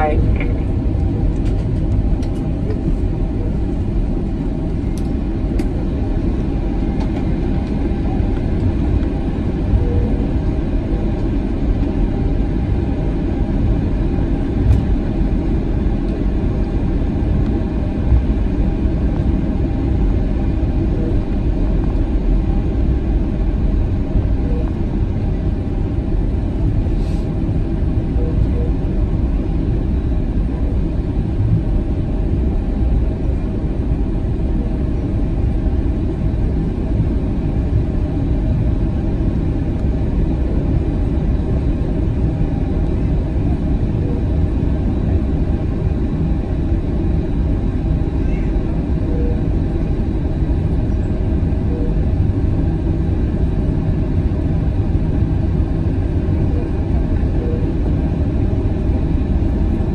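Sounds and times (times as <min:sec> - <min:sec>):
aircraft cabin rumble: 0:00.0 - 0:59.9
faint steady hum: 0:00.0 - 0:59.9.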